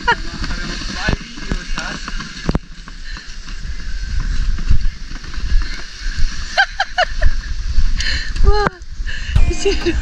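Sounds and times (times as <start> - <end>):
wind rumbling on microphone: 0.0 - 9.4.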